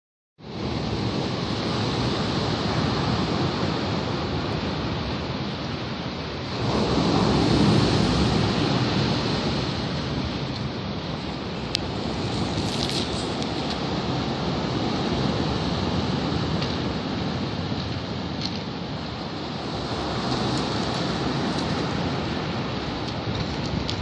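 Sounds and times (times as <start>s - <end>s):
sea waves washing on shore: 0.4s - 24.0s.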